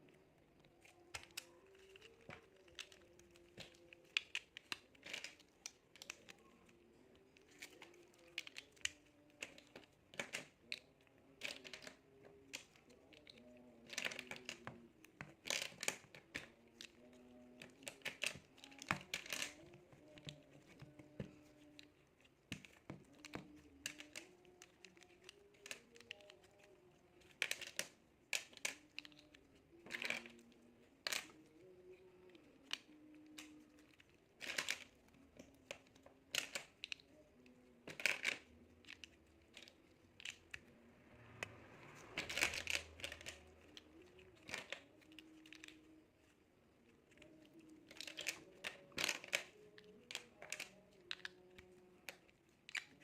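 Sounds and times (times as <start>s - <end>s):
plastic bricks clicking together: 0.6s - 40.7s, 42.2s - 46.3s, 46.9s - 53.0s.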